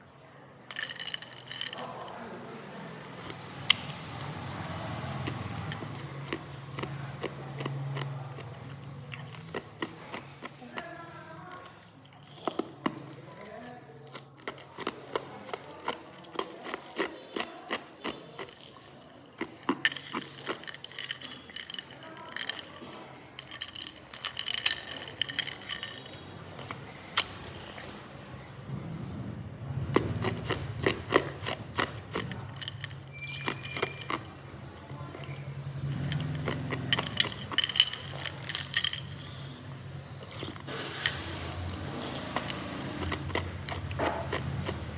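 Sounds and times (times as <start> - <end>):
ice crunching while chewed: 0.0 - 2.3, 3.0 - 44.9.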